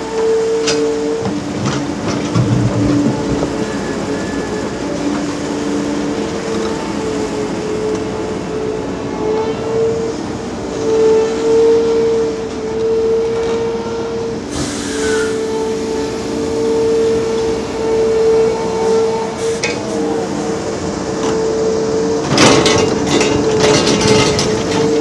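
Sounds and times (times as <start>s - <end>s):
excavator engine with high whine: 0.0s - 25.0s.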